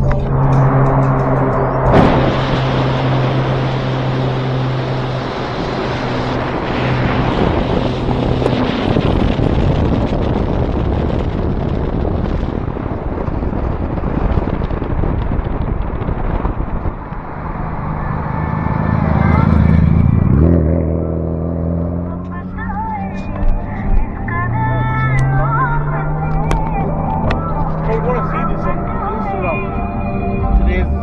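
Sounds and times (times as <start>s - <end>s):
low engine hum: 0.0s - 31.0s
road noise: 0.0s - 31.0s
wind rushing over microphone: 0.0s - 31.0s.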